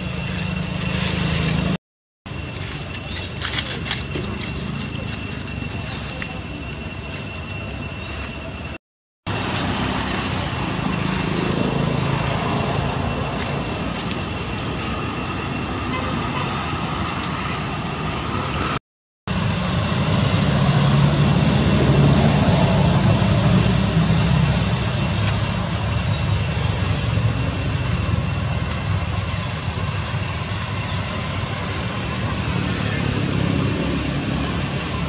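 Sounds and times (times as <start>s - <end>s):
road traffic engine hum: 0.0s - 35.0s
thin high whine: 0.0s - 35.0s.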